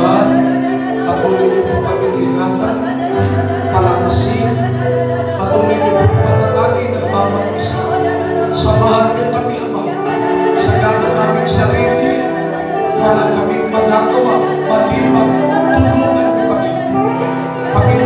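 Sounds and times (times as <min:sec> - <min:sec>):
church worship music: 0:00.0 - 0:18.0.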